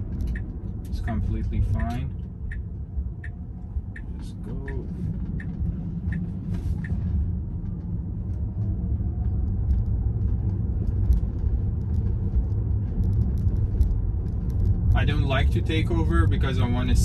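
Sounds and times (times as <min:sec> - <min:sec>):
turn signal ticking: 0:00.0 - 0:17.0
tyre and road rumble: 0:00.0 - 0:17.0.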